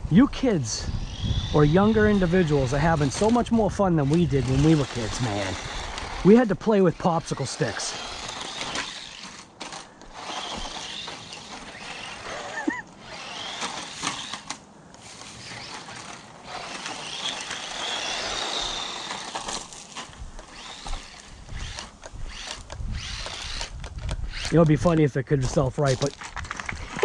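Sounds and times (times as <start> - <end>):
toy truck motor whining: 0.4 - 25.0
tyres rolling on ground: 1.6 - 27.0.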